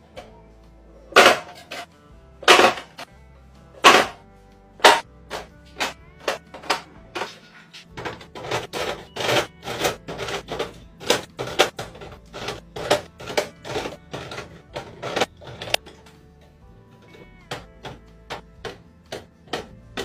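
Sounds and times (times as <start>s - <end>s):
containers clicking and knocking: 1.1s - 3.1s, 3.8s - 4.2s, 4.8s - 16.2s, 17.0s - 20.0s.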